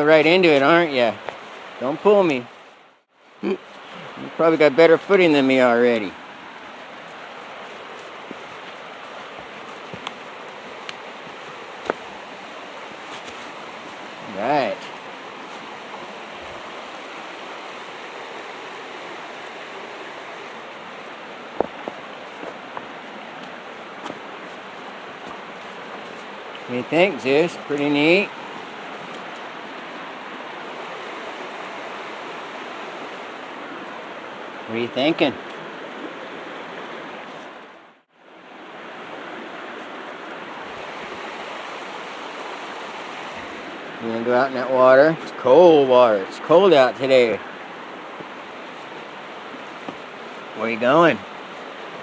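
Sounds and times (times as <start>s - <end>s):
creek flowing: 0.0s - 52.0s.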